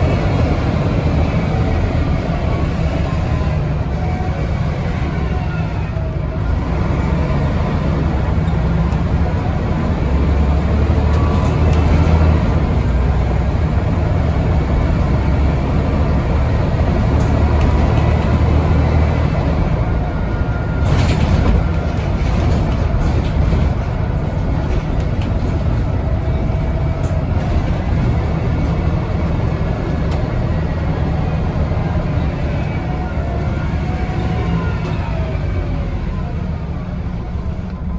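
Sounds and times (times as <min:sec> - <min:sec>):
bus engine droning: 0:00.0 - 0:37.9.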